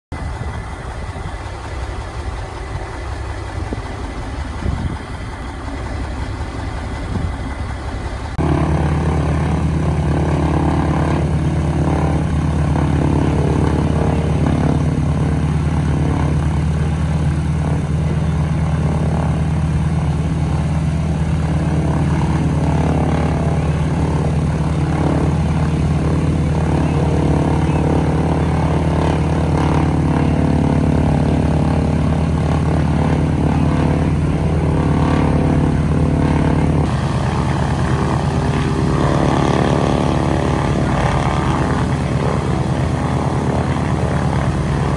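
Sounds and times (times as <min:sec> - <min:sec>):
radial aircraft engine running: 0:00.1 - 0:44.9.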